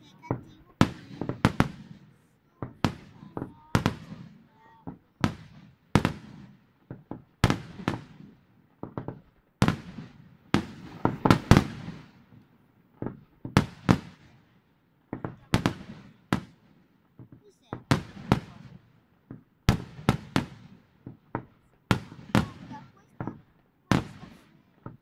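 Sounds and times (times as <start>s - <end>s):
firework bangs echoing: 0.0s - 25.0s.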